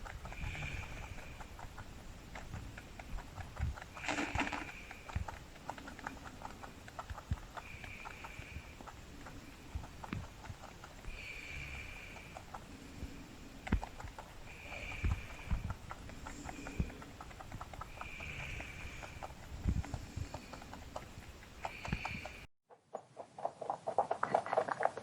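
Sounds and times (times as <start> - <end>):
rabbit clicking: 0.0 - 22.5
rabbit hissing: 0.0 - 22.5.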